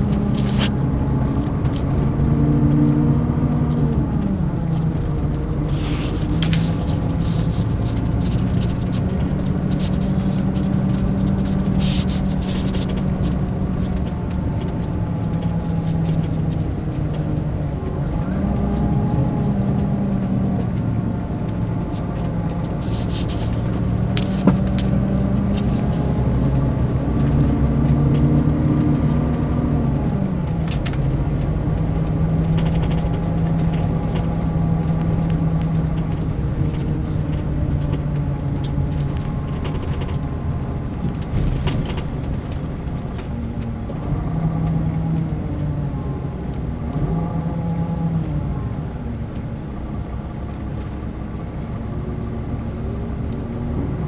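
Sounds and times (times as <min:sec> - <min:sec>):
diesel coach engine running: 0:00.0 - 0:54.0.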